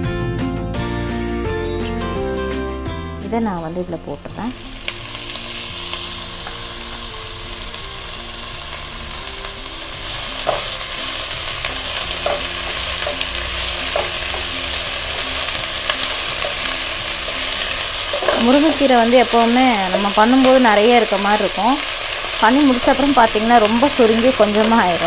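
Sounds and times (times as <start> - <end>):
leaves sizzling in hot oil: 3.2 - 25.0.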